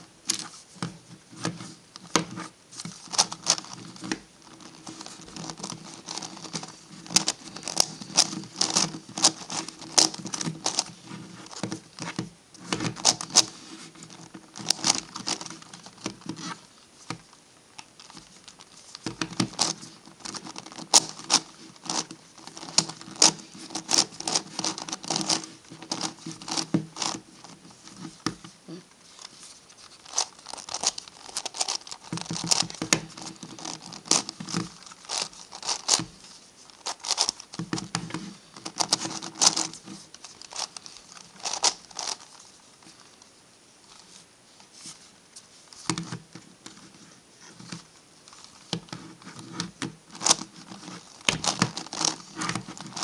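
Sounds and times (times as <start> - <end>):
plastic puzzle clacking: 0.3 - 17.2, 17.9 - 28.5, 29.2 - 43.0, 47.6 - 53.0.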